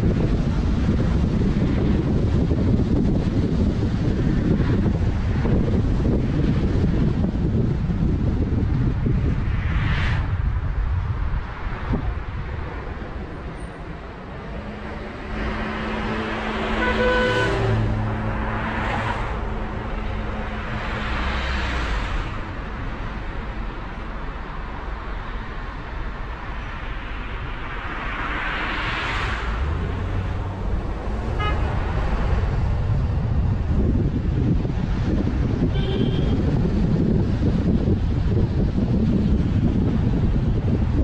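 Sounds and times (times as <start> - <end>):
engine and tyre rumble: 0.0 - 41.0
vehicles passing: 0.0 - 41.0.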